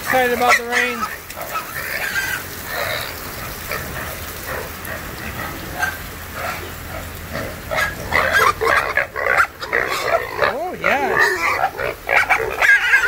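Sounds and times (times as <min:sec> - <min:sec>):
pigs grunting: 0:00.0 - 0:13.0
rain: 0:00.0 - 0:13.0.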